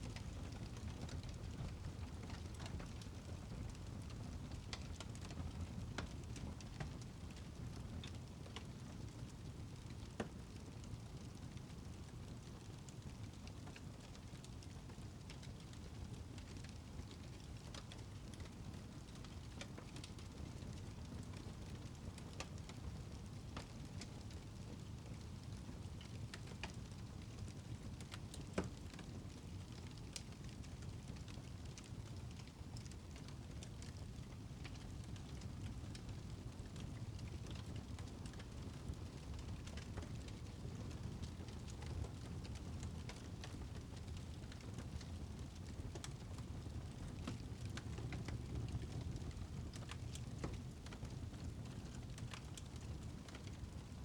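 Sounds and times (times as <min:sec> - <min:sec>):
wood fire crackling: 0:00.1 - 0:54.0.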